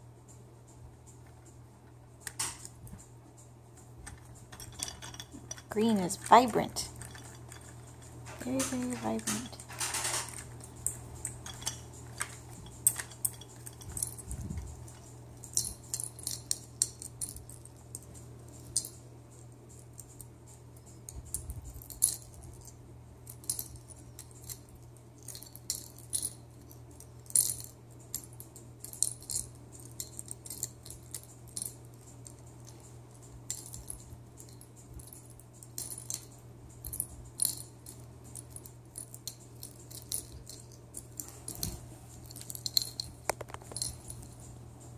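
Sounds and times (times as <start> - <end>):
plastic toys clicking and rattling: 1.1 - 3.0, 3.7 - 44.9.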